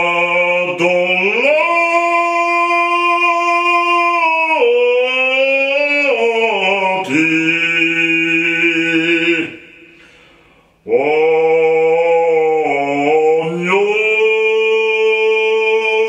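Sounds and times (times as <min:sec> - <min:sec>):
man singing operatically: 0:00.0 - 0:09.9, 0:10.8 - 0:16.0.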